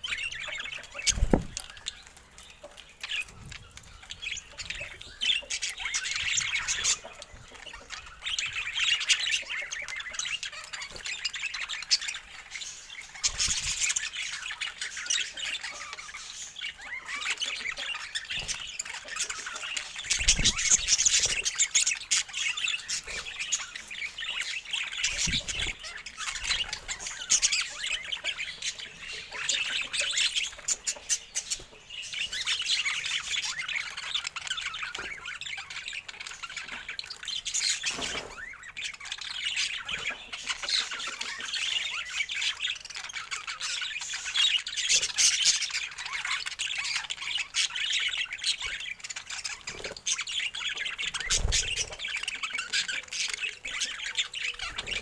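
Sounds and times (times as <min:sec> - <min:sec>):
budgerigars chattering and squawking: 0:00.0 - 0:55.0.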